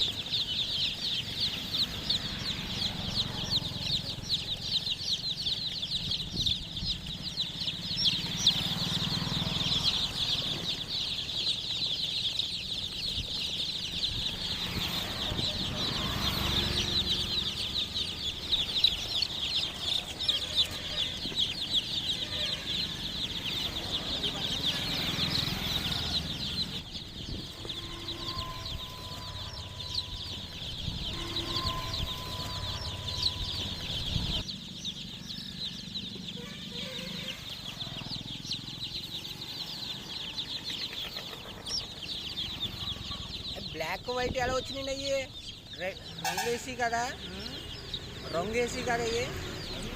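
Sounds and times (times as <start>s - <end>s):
chicks peeping: 0.0s - 49.9s.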